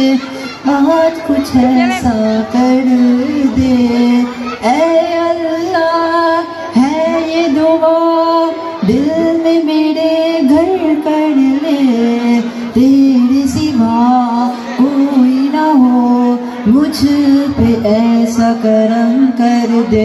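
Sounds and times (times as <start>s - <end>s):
boy singing devotional song: 0.0s - 20.0s.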